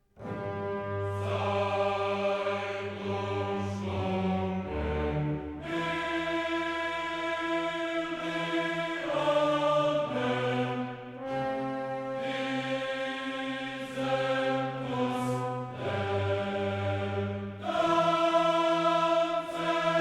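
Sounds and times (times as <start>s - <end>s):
choir-like voices holding chords: 0.2s - 20.0s.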